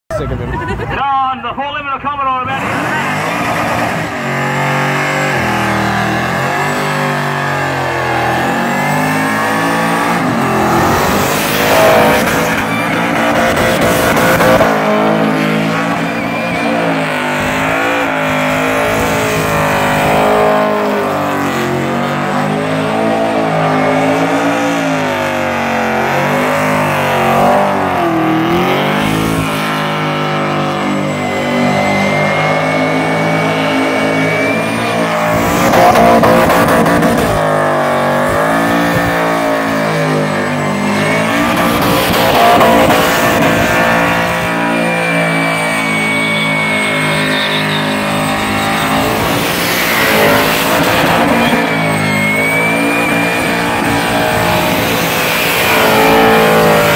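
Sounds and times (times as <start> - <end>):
car engine revving: 2.4 - 56.9.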